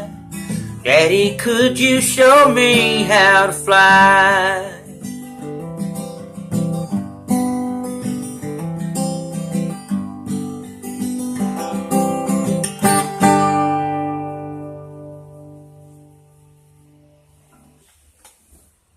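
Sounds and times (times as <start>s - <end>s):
acoustic guitar picking and strumming: 0.0s - 18.1s.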